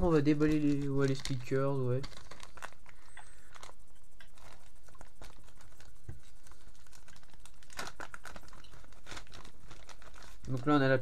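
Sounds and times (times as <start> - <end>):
packaging clicks and rustles: 0.0 - 11.0.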